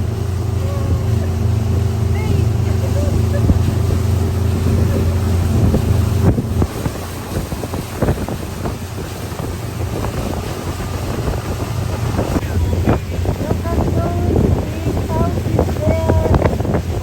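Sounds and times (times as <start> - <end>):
motorboat engine running: 0.0 - 17.0
wind buffeting microphone: 0.0 - 17.0.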